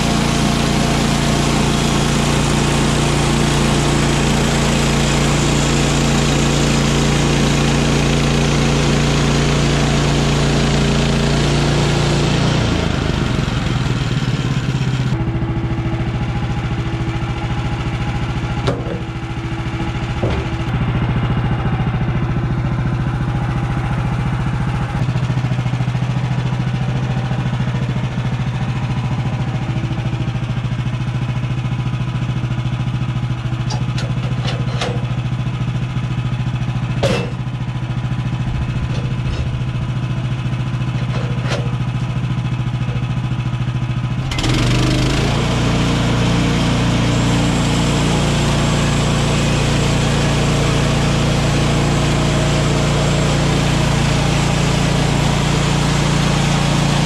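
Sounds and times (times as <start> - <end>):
gas engine running under load: 0.0 - 57.0.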